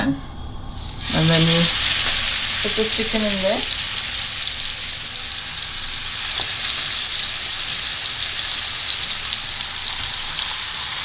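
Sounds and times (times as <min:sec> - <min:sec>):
meat sizzling in a frying pan: 0:00.8 - 0:11.0.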